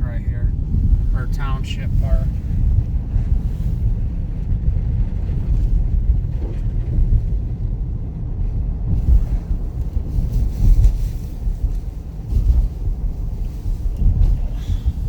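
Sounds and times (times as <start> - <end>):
car driving road noise: 0.0 - 15.0
wind buffeting on microphone: 0.0 - 15.0.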